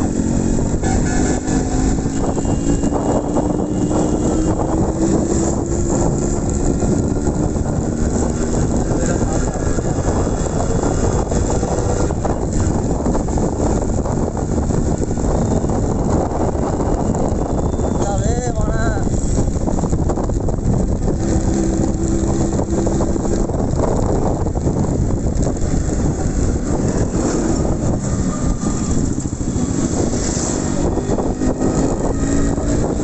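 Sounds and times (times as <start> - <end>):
motorcycle engine running: 0.0 - 33.0
road noise: 0.0 - 33.0
wind rushing: 0.0 - 33.0.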